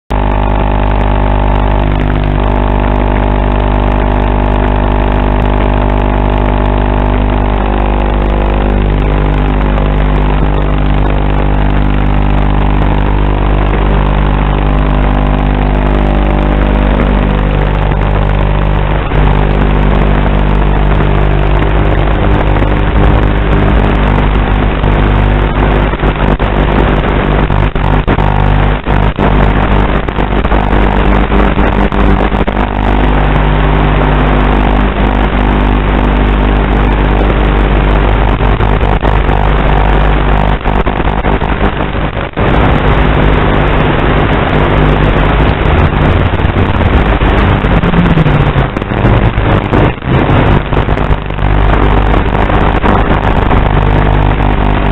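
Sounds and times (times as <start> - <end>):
radio crackles: 0.1 - 54.9.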